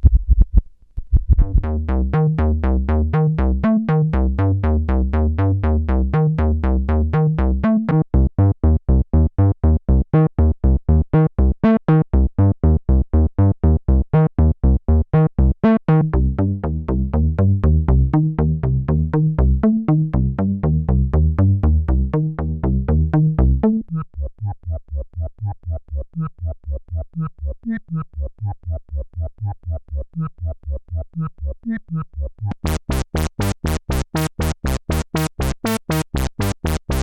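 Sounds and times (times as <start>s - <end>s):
synthesizer bass line: 1.3s - 37.0s.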